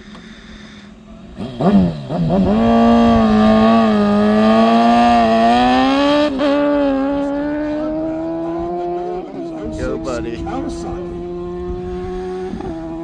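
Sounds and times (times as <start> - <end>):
motorcycle accelerating at full throttle: 1.1 - 13.0.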